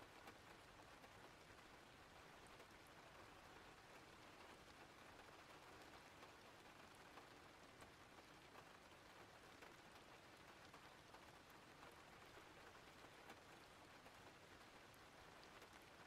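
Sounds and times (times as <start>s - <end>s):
faint steady rain: 0.0s - 16.0s
tiny raindrop ticks: 0.0s - 16.0s.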